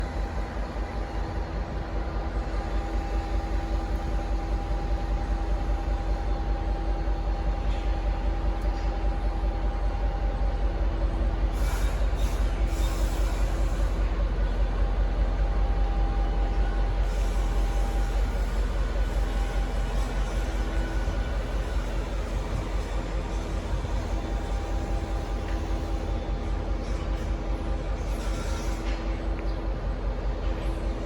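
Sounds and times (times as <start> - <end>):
diesel locomotive rumble and whine: 0.0 - 31.0.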